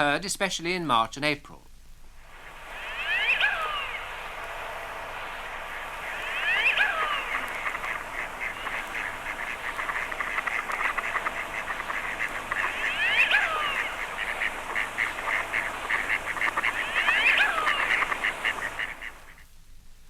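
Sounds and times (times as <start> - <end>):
duck wheezy whistle: 2.4 - 19.4.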